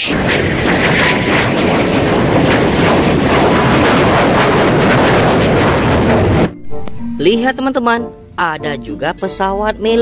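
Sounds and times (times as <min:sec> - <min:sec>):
jet engine taking off: 0:00.0 - 0:08.4.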